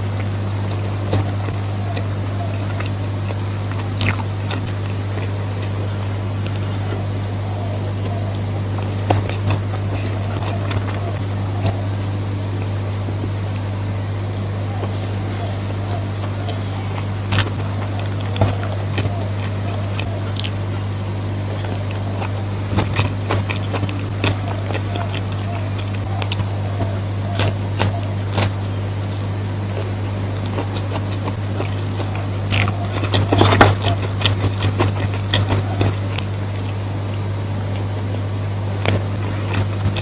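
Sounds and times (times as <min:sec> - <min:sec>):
chewing: 0:00.0 - 0:40.0
low electrical hum: 0:00.0 - 0:40.0.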